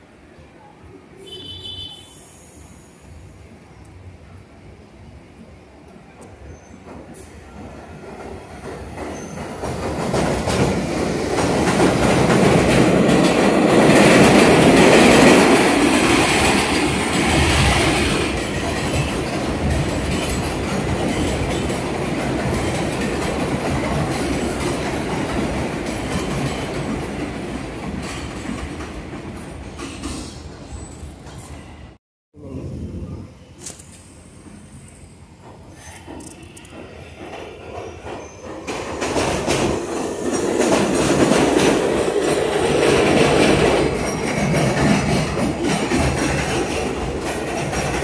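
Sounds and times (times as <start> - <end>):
subway train on elevated track: 0.0 - 48.0.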